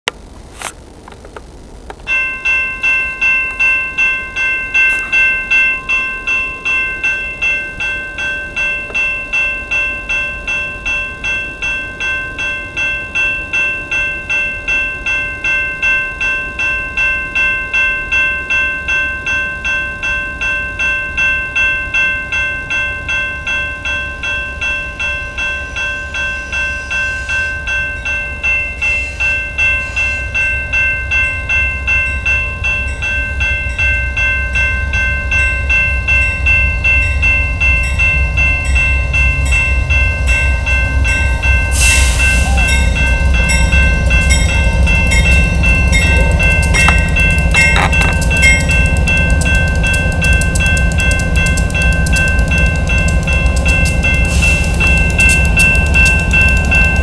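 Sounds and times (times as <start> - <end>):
train rumble: 0.1 - 57.0
railroad crossing bell ringing: 2.0 - 57.0.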